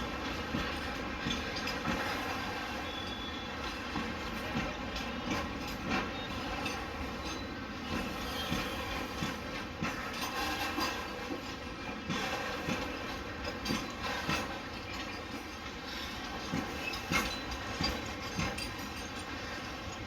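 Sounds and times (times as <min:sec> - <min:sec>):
train wheels clanking over rail joints: 0:00.0 - 0:20.0
wheels screeching on rail: 0:00.1 - 0:20.0.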